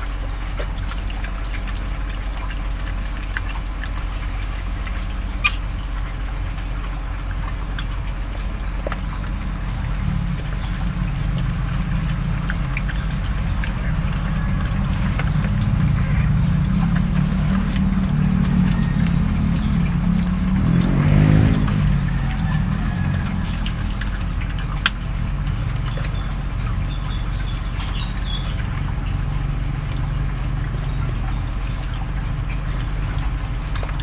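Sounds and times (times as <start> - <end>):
low motor rumble: 0.0 - 34.0.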